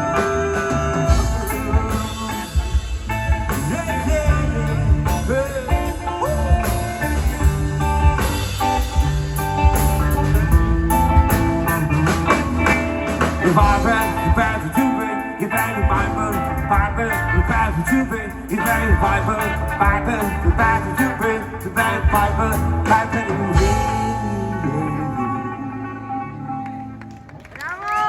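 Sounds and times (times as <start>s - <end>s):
heavy bass line: 0.0s - 27.0s
reggae band playing: 0.0s - 27.4s.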